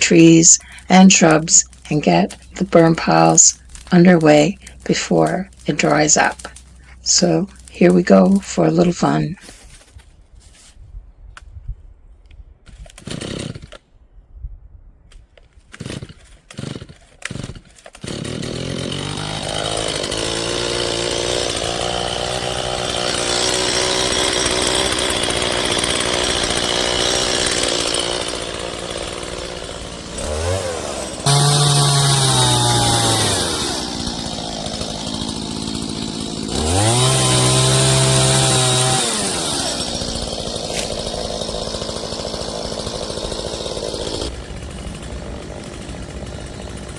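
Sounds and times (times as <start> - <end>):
chainsaw running and revving: 0.0 - 9.4, 13.0 - 13.8, 15.8 - 46.9
chainsaw starter pulls: 0.0 - 10.0, 12.7 - 13.9, 15.6 - 46.9.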